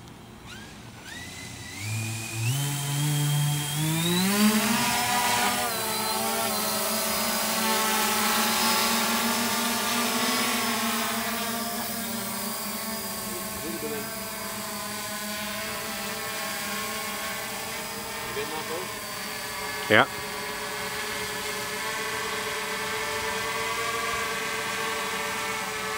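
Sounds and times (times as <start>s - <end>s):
drone motors whining and buzzing: 0.0s - 25.9s.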